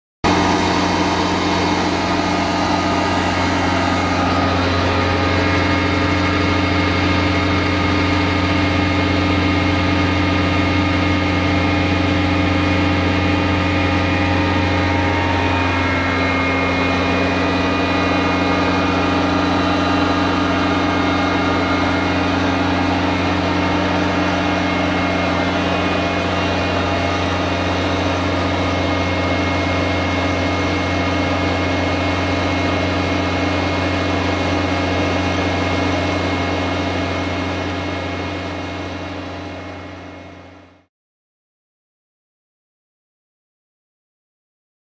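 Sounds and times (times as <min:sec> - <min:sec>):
core drill running: 0:00.2 - 0:40.7
diesel engine low hum: 0:00.2 - 0:40.9.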